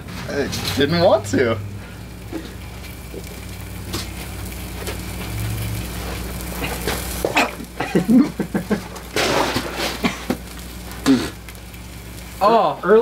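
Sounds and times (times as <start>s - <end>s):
egg sizzling: 0.0s - 13.0s
steady low hum: 0.0s - 13.0s.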